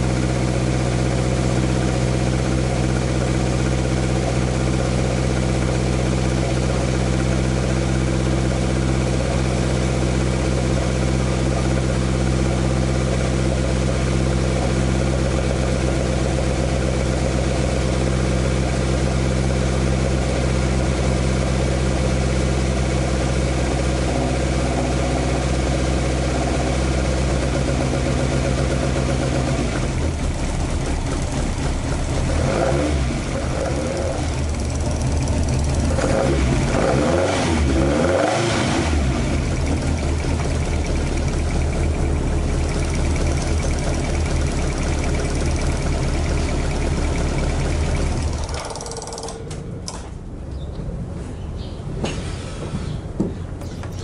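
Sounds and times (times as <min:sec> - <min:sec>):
car engine idling: 0:00.0 - 0:51.0, 0:53.2 - 0:54.0.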